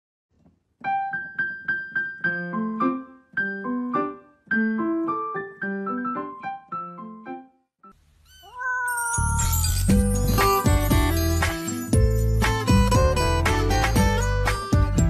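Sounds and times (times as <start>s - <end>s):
piano melody: 0.8s - 7.6s, 9.0s - 15.0s.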